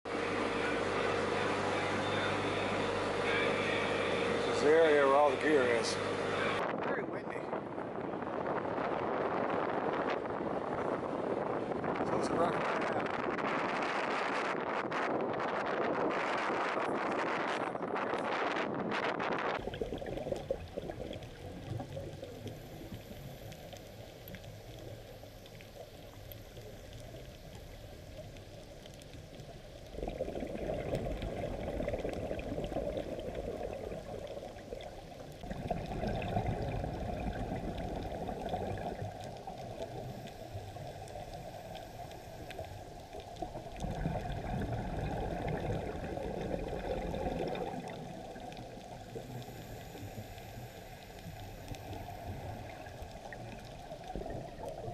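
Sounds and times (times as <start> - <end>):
muffled underwater bubbling: 7.4 - 54.9.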